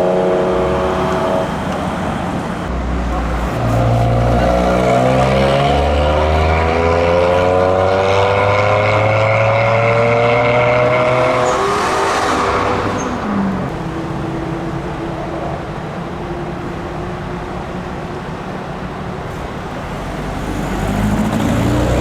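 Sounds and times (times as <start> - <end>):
car engine pulling away: 0.0 - 22.0.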